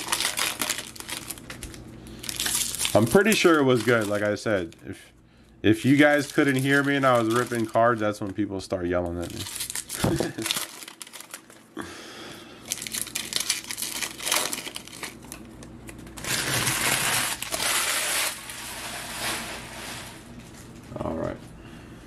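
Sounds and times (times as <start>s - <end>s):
foil wrappers crinkling: 0.0s - 4.9s, 5.7s - 11.9s, 12.6s - 20.8s.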